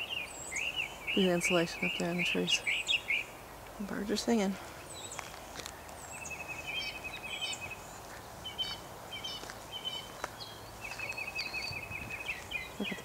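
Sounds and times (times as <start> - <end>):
faint outdoor hiss: 0.0 - 13.0
songbirds singing: 0.0 - 13.0.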